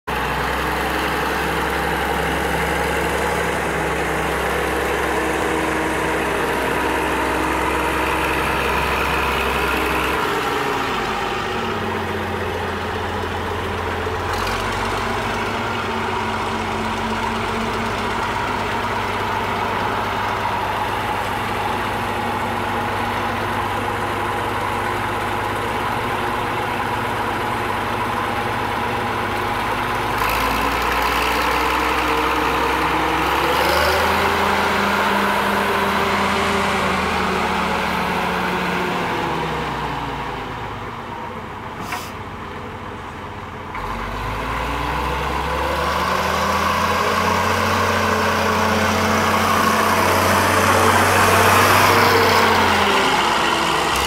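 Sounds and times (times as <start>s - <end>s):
grader diesel engine running: 0.1s - 54.0s.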